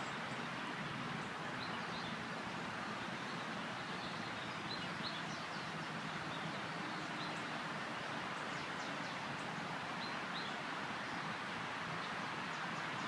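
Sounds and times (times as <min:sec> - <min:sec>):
small songbirds chirping: 0:00.0 - 0:13.0
steady background hiss: 0:00.0 - 0:13.0.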